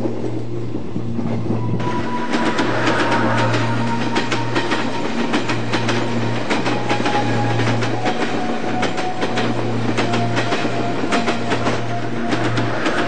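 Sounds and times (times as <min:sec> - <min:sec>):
train rumbling: 0:00.0 - 0:13.0
wheels clicking over rail joints: 0:01.2 - 0:13.0.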